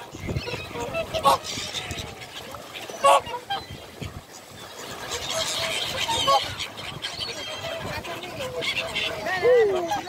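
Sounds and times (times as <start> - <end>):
birds calling: 0.0 - 10.0.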